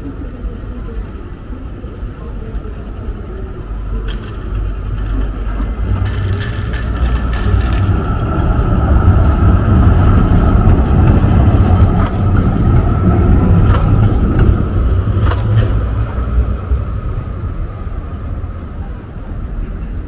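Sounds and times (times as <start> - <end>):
thin steady whine: 0.0 - 20.0
motor vehicle rumble passing: 3.8 - 20.0.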